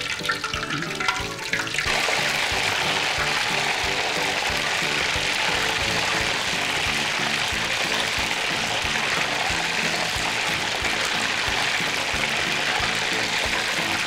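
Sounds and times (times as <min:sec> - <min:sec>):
background music with steady beat: 0:00.0 - 0:14.0
hot oil hissing over chicken: 0:00.0 - 0:14.0.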